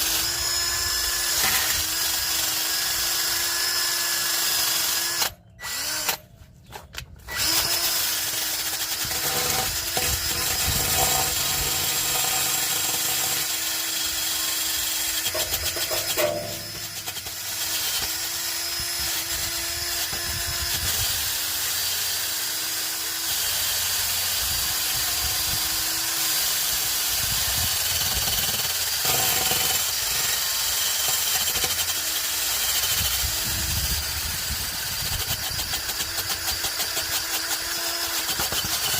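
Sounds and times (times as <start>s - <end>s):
power tool scouring metal: 0.0s - 6.2s, 7.3s - 38.9s.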